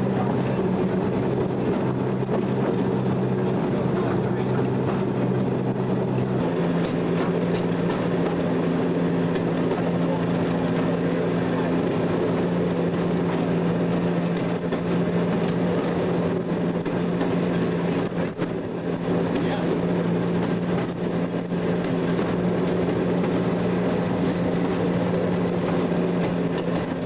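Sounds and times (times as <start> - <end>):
rail vehicle engine running: 0.0 - 27.0.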